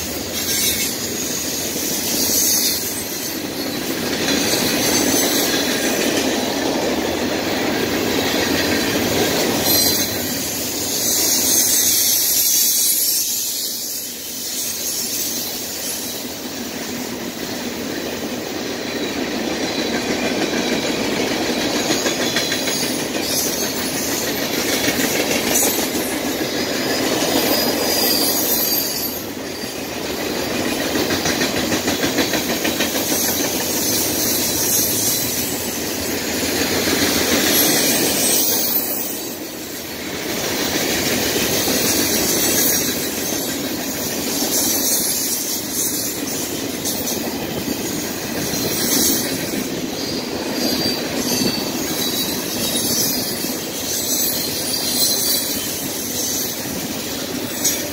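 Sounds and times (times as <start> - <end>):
train wheels clattering on rails: 0.0 - 57.9.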